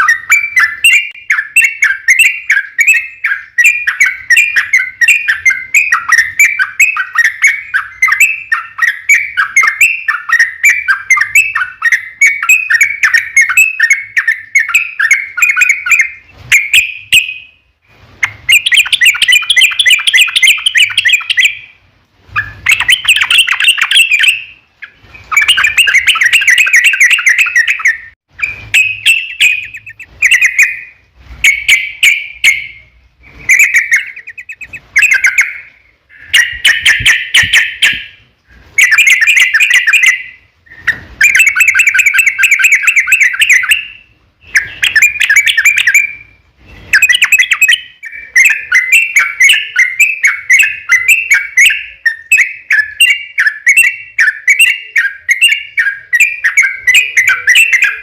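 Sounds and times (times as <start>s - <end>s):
bird chattering song: 0.0s - 17.6s, 18.2s - 58.0s.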